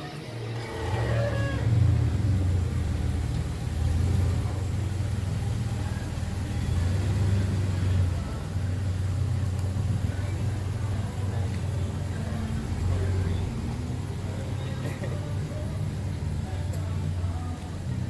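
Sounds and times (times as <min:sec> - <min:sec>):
car engine running: 0:00.2 - 0:18.0.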